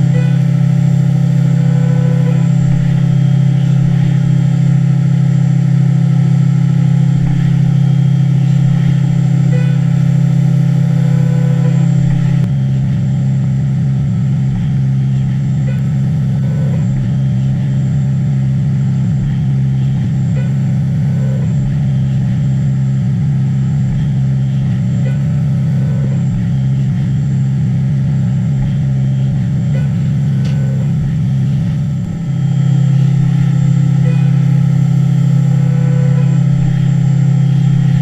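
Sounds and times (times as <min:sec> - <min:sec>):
milling machine hum: 0:00.0 - 0:38.0.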